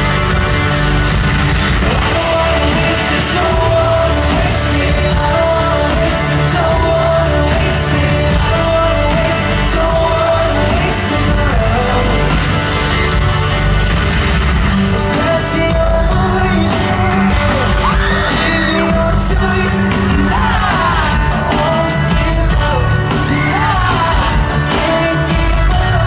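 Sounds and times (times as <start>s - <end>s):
fans yelling and whooping: 0.0s - 26.0s
live pop-rock band playing: 0.0s - 26.0s
person singing: 1.7s - 13.6s, 14.6s - 26.0s.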